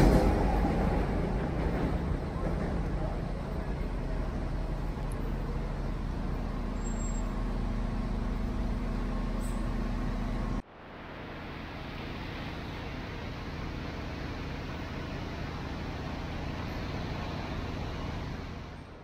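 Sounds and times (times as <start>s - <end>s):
bus engine idling: 0.0s - 19.0s
city traffic rumble: 0.0s - 19.0s.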